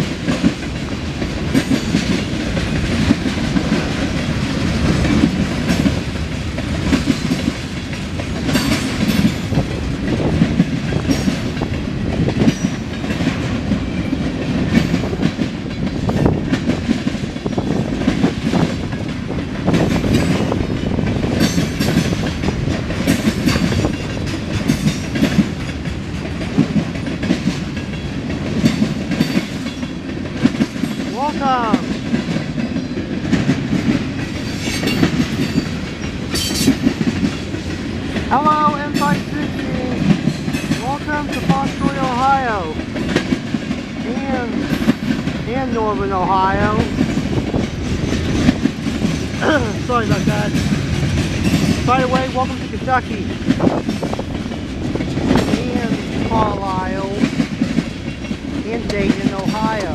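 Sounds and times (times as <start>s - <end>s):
freight train rumbling past: 0.0s - 59.9s
wheels clattering over rail joints: 0.0s - 59.9s.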